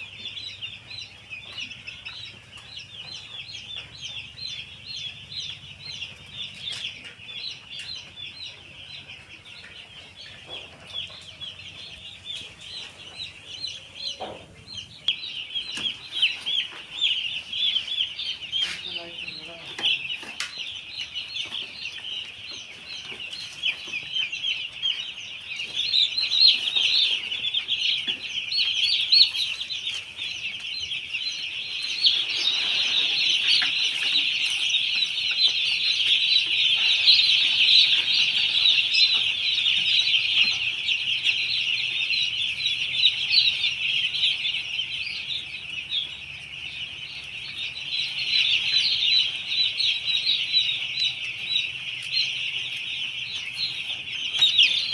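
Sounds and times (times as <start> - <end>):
chickens calling: 0.0 - 54.9.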